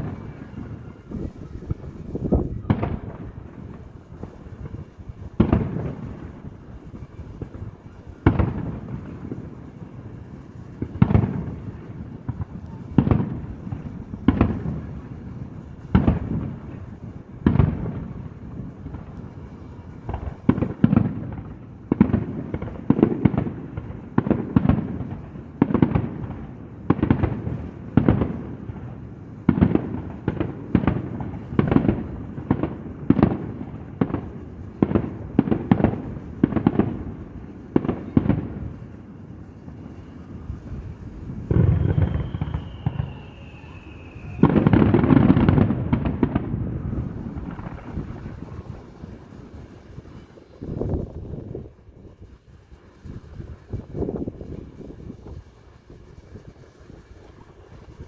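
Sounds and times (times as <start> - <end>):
fireworks booming: 0.0 - 58.0.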